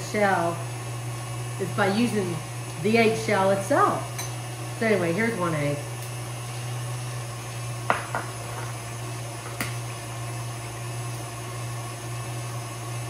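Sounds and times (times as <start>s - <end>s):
stand mixer motor running: 0.0s - 13.0s.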